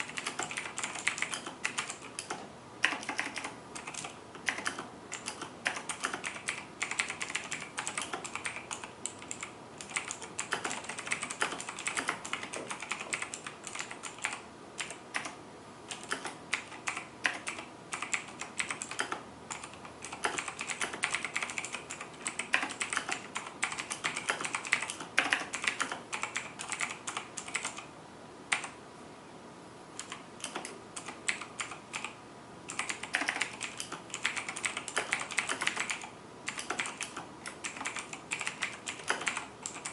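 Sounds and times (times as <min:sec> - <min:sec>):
mechanical keyboard typing: 0:00.0 - 0:27.9, 0:28.5 - 0:28.8, 0:30.0 - 0:39.9.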